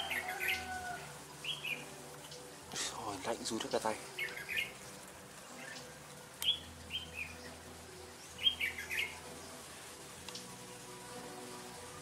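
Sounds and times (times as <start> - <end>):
bird singing: 0.0 - 12.0.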